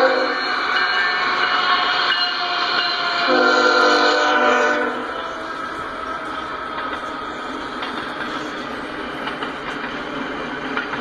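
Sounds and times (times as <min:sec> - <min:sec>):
freight cars rumbling on rails: 0:00.0 - 0:11.0.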